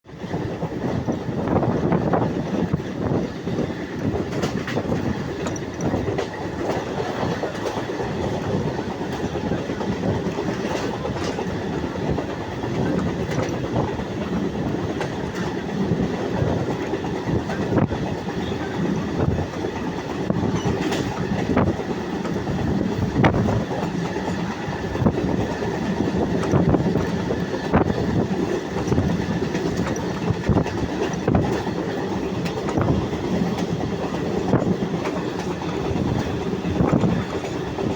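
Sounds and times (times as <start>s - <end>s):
train wheels rumbling on rails: 0.0s - 37.9s
wheel clicks over rail joints: 3.5s - 37.9s.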